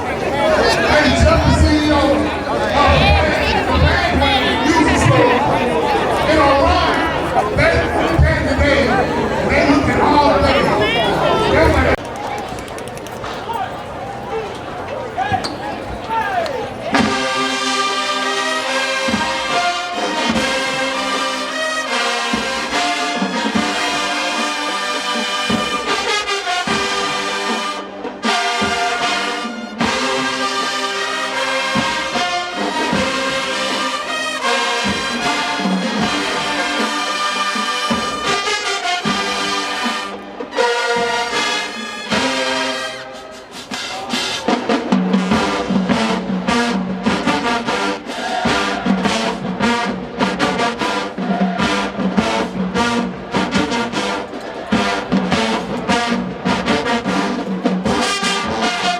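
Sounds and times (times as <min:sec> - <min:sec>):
brass band playing: 0:00.0 - 0:12.2, 0:13.3 - 0:58.9.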